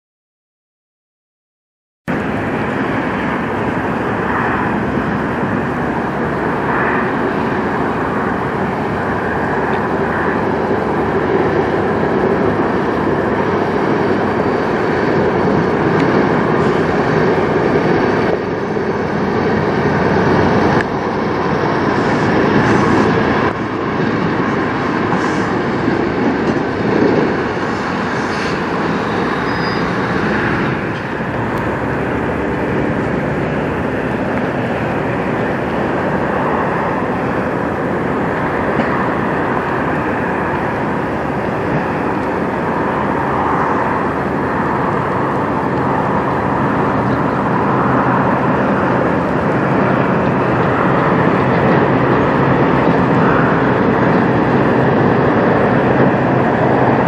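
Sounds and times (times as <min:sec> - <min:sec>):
road and traffic noise: 0:02.0 - 0:57.0
truck diesel engine: 0:02.1 - 0:57.0.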